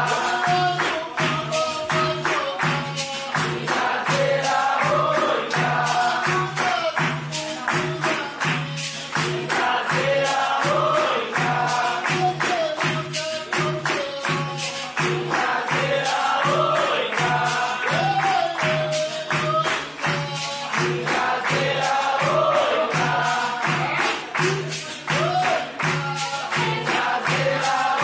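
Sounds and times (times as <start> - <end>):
steady percussion beat: 0.0 - 28.0
tambourine jingles: 0.0 - 28.0
voices singing together: 0.0 - 28.0.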